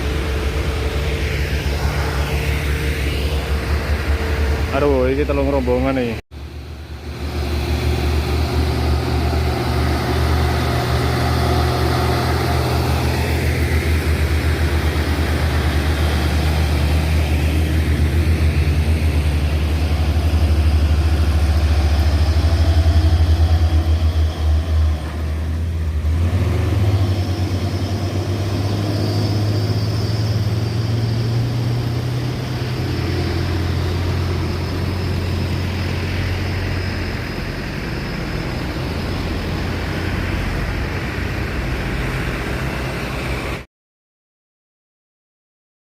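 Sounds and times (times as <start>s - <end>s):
diesel trucks rumbling past: 0.0s - 43.7s.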